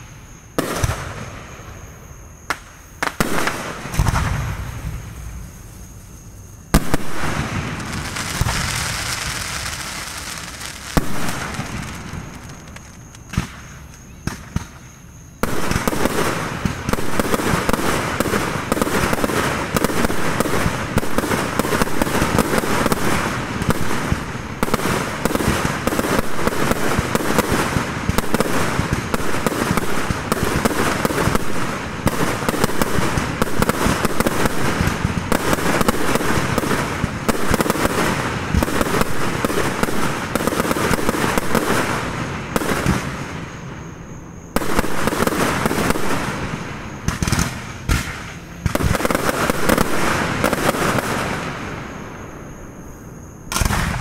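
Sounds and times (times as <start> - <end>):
fireworks launching and bursting: 0.0 - 52.6, 53.2 - 54.0.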